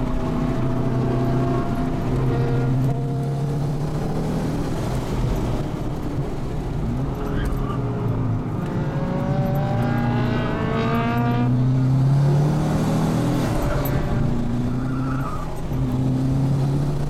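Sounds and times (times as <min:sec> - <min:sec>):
car engine pulling hard: 0:00.0 - 0:17.0.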